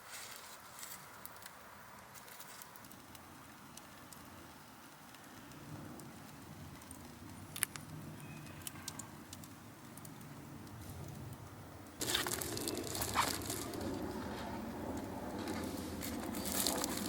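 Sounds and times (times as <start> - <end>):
campfire crackling and popping: 0.7 - 17.0
low fire rumble: 1.2 - 17.0.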